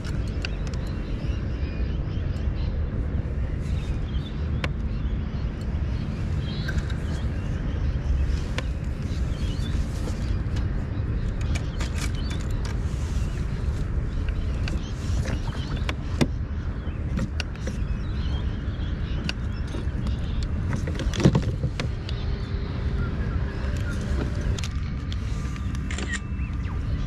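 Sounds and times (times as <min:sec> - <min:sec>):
fishing gear clicks and knocks: 0:00.0 - 0:01.2, 0:03.6 - 0:18.5, 0:19.1 - 0:22.6, 0:23.4 - 0:26.8.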